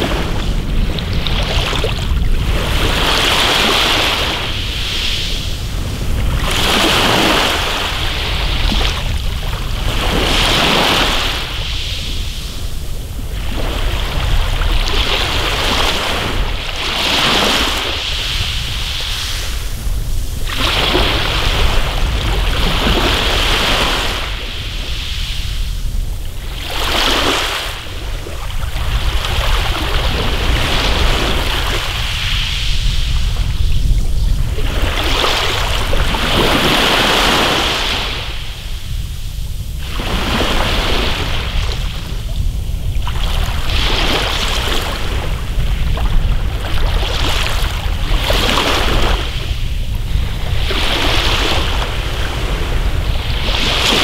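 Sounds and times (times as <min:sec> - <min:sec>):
waves washing over pebbles: 0:00.0 - 0:54.0.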